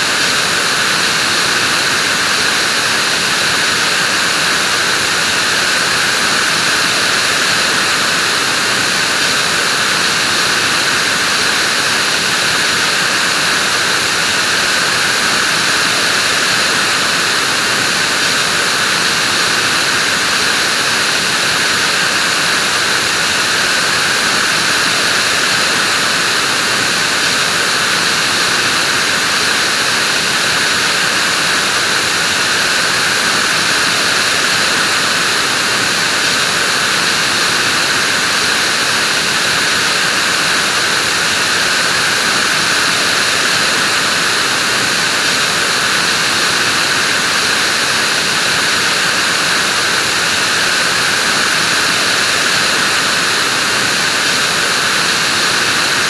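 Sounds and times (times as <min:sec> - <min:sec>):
vacuum cleaner motor running: 0:00.0 - 0:56.0.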